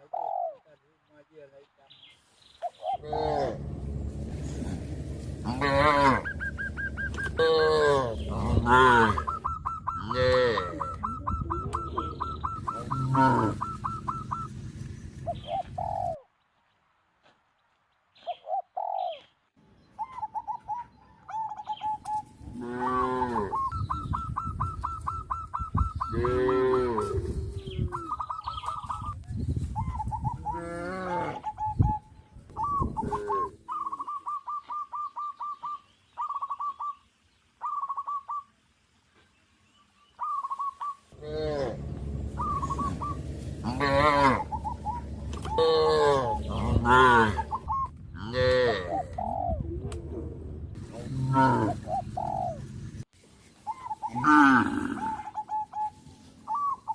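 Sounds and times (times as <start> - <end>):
farmyard bird calls: 0.0 - 16.3, 18.1 - 56.9.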